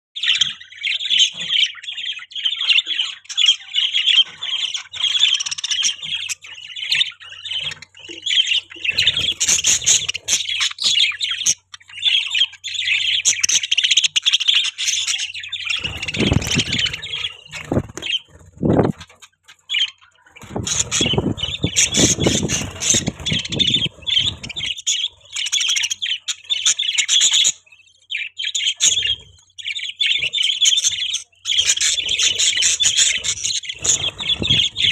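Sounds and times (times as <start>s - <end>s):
budgies chattering and chirping: 0.2s - 34.9s.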